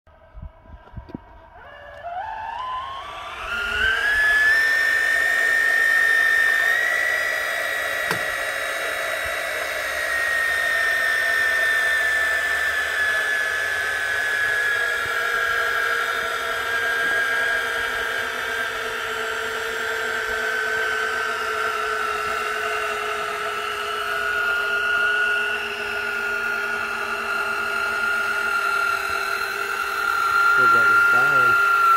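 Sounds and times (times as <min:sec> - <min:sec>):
caulking gun motor whining: 0:00.1 - 0:31.9.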